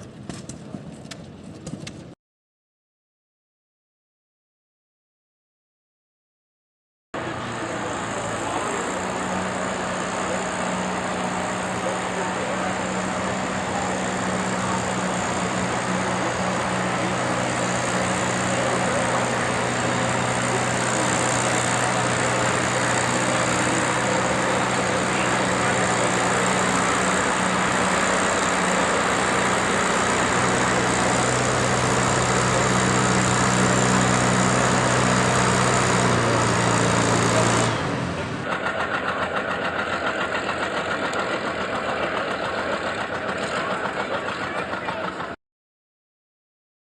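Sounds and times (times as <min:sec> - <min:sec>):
tractor engine running: 0:07.2 - 0:45.4.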